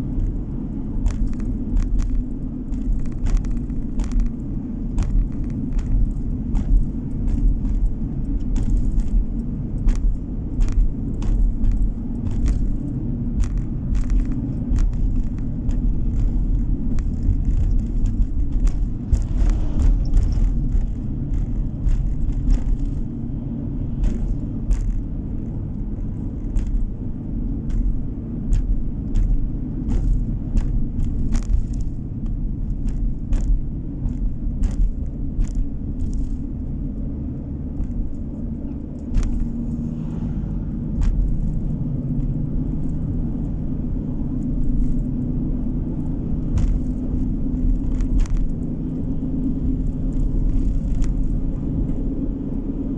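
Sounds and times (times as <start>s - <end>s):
light clicks and rattles: 0.0s - 52.9s
road and engine rumble in car: 0.0s - 52.9s.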